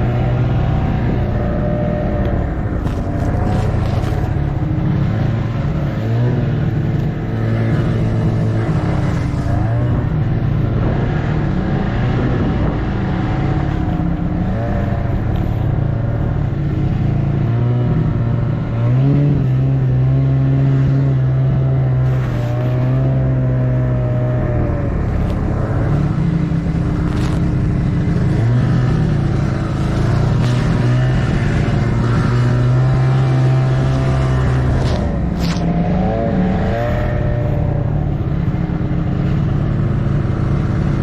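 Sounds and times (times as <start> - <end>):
snowmobile engine running: 0.0 - 41.0.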